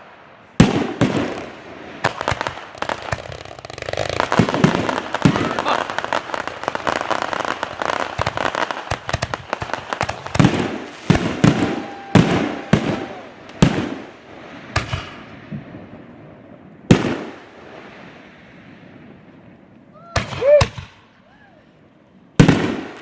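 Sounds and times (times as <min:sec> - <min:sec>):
fireworks bangs: 0:00.0 - 0:21.3, 0:22.4 - 0:23.0
fireworks crackling: 0:00.0 - 0:21.4, 0:22.4 - 0:23.0.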